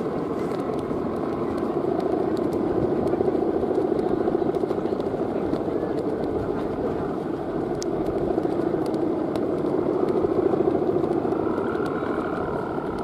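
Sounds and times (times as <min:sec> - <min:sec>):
kite hummer droning: 0:00.0 - 0:13.0.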